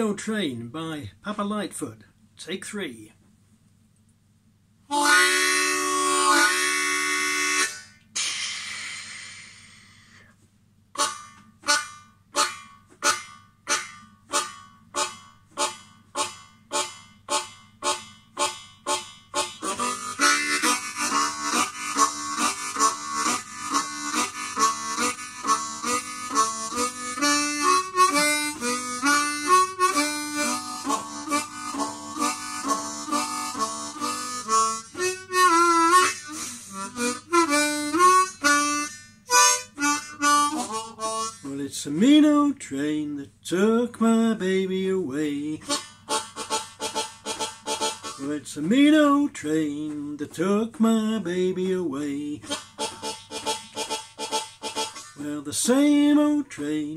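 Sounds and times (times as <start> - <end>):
harmonica train imitation: 4.9 - 9.3, 11.0 - 42.4, 44.1 - 50.1, 50.9 - 56.3.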